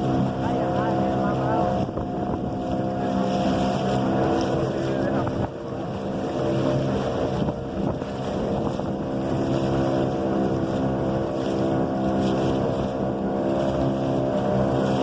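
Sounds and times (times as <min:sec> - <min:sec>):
speedboat engine running: 0:00.0 - 0:15.0.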